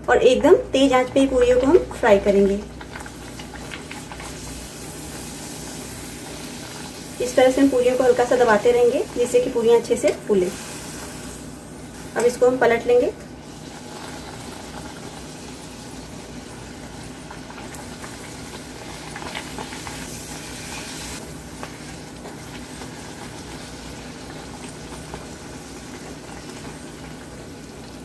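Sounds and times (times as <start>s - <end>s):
dough deep-frying in oil: 0.1s - 28.0s.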